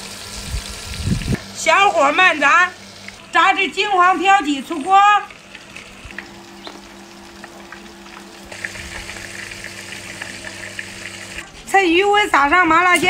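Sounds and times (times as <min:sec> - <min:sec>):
chicken deep-frying in oil: 0:00.0 - 0:11.9.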